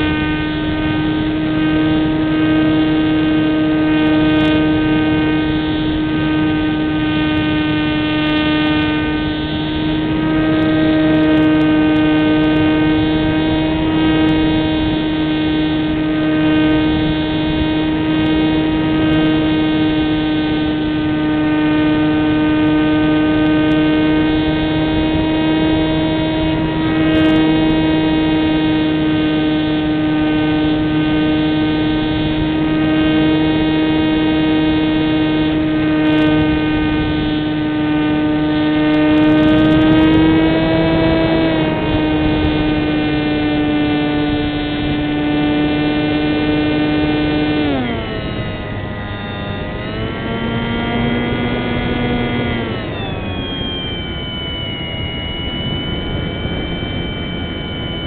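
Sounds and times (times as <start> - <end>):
airflow noise: 0.0 - 58.0
electric motor and propeller whining: 0.0 - 58.0.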